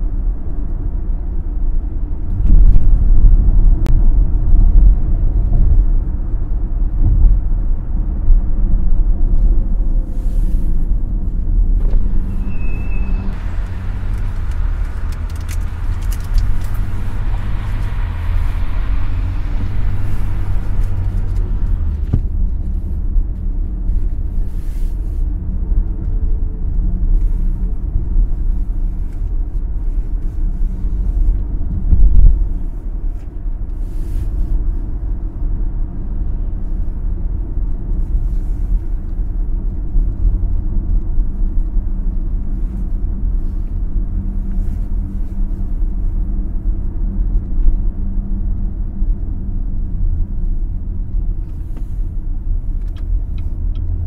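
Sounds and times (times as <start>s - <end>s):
road and engine noise: 0.0s - 54.0s.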